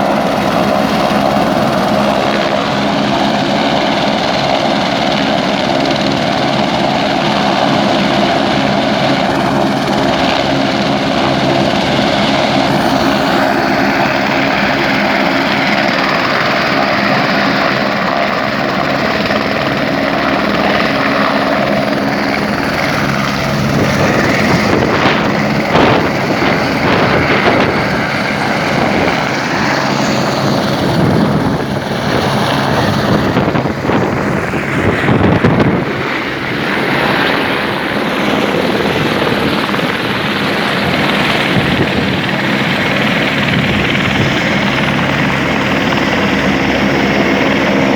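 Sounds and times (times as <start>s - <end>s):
helicopter rotor and engine: 0.0s - 47.9s.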